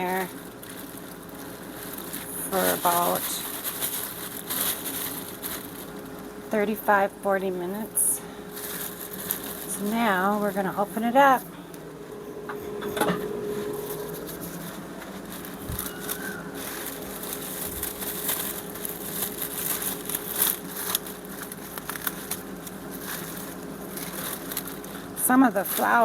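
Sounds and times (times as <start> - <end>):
plastic bag crinkling: 0.0 - 12.2, 13.2 - 26.0
faint steady hum: 0.0 - 26.0.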